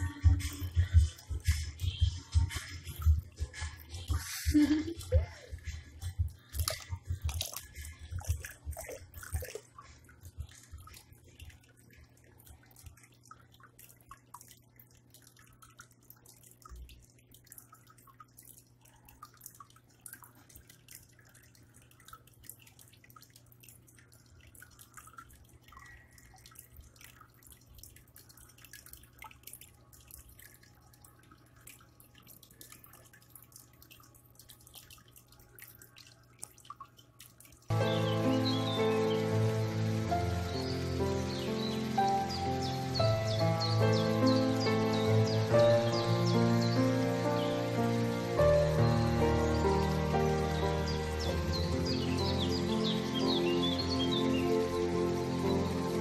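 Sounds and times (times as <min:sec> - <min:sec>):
low steady hum: 0:00.0 - 0:56.0
water dripping: 0:00.0 - 0:56.0
water trickling into tub: 0:00.0 - 0:56.0.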